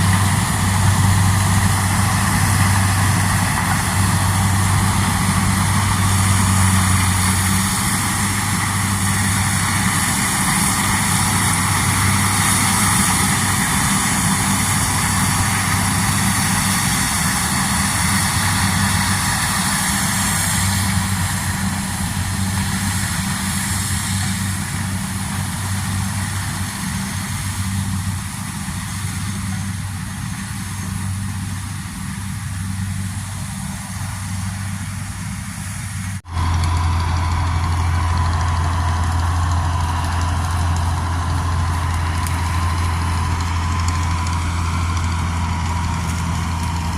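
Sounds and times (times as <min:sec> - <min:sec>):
combine harvester running: 0:00.0 - 0:46.9.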